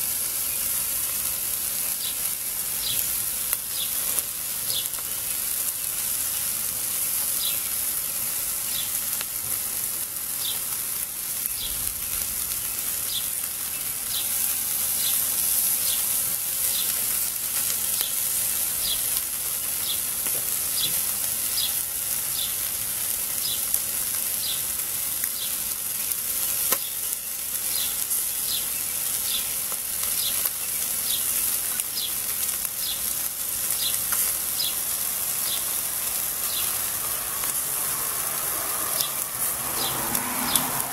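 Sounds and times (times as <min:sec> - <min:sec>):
chicken sizzling on grill: 0:00.0 - 0:40.9.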